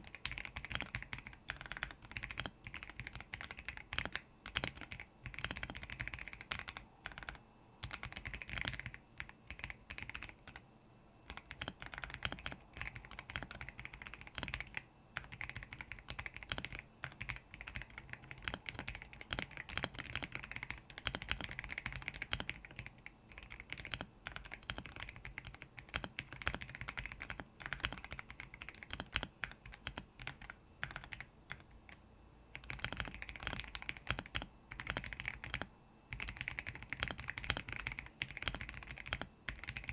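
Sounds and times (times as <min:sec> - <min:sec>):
mechanical keyboard typing: 0:00.0 - 0:10.6, 0:11.3 - 0:39.9.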